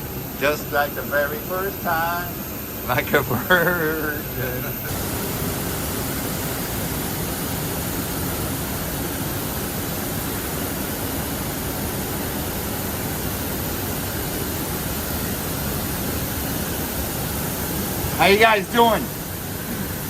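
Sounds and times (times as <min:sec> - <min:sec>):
high constant whine: 0:00.0 - 0:20.0
jet engine roaring: 0:00.0 - 0:20.0.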